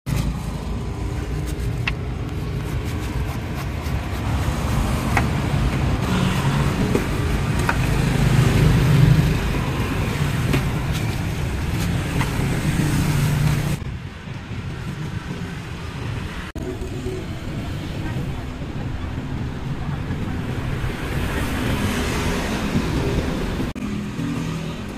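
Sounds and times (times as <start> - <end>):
traffic engine drone: 0.1 - 24.9.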